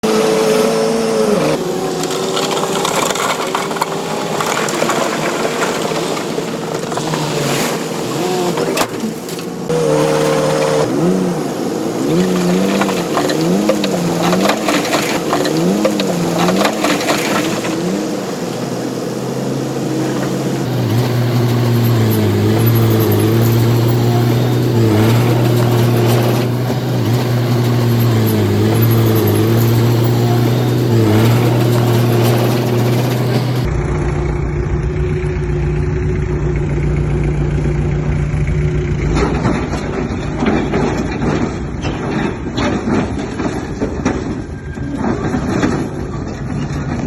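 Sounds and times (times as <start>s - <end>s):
bulldozer diesel engine working: 0.0s - 47.0s.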